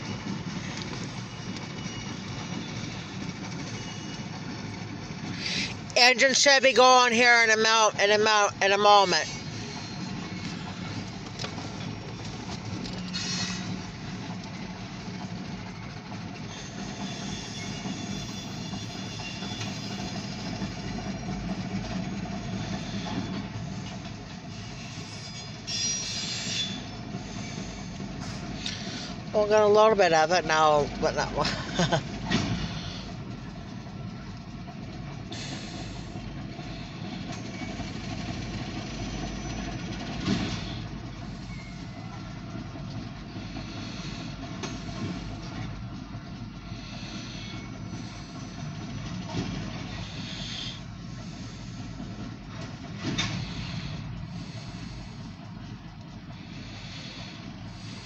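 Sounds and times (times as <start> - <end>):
low engine hum: 0.0 - 25.7, 26.7 - 58.0
freight cars rolling on rails: 0.0 - 58.0.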